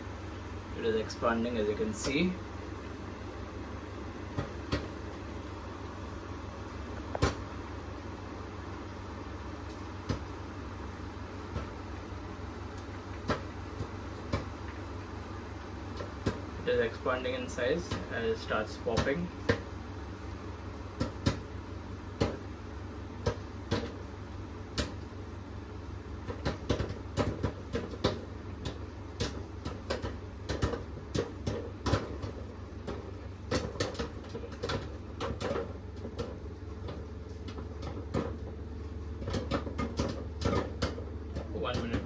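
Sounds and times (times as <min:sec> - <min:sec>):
microwave humming: 0:00.0 - 0:42.0
popcorn popping: 0:00.5 - 0:42.0.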